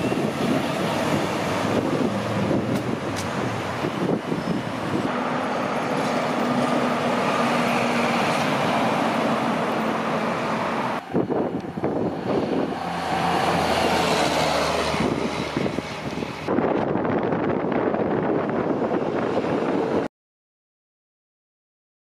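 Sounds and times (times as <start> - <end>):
tow truck driving past: 0.0 - 20.0
traffic tyre noise and engine hum: 0.0 - 20.1.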